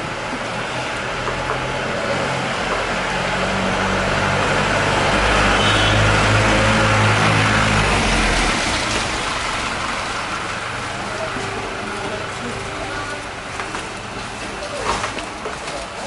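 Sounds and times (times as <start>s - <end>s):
street noise: 0.0s - 16.0s
vehicle engine running: 0.0s - 16.0s.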